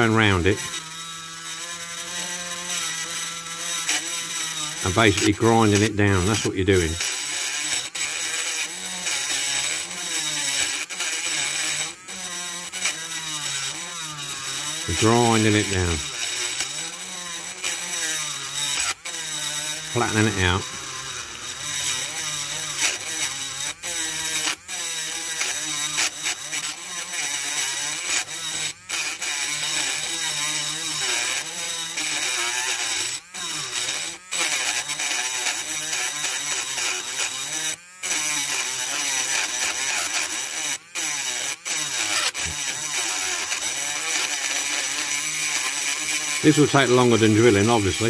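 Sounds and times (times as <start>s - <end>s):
rotary tool grinding metal: 0.0s - 48.0s.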